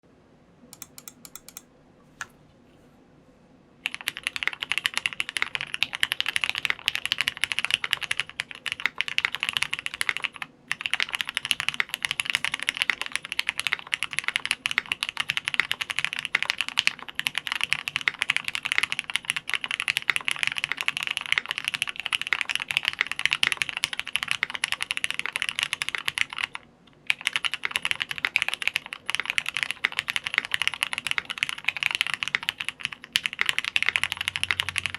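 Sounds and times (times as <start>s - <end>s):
fast mechanical keyboard typing: 0.8s - 1.6s, 3.8s - 34.9s.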